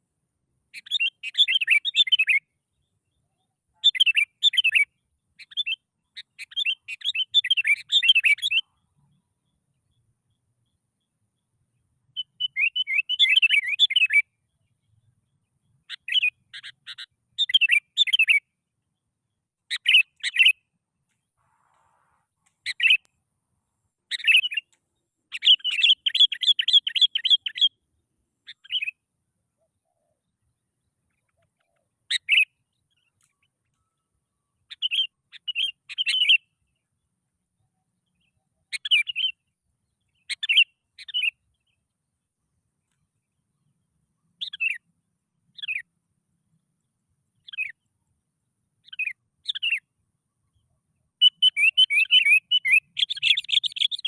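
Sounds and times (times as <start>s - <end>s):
bulbul chirping song: 0.6s - 23.1s, 23.9s - 41.9s, 43.7s - 46.0s, 46.6s - 48.0s, 48.7s - 54.0s.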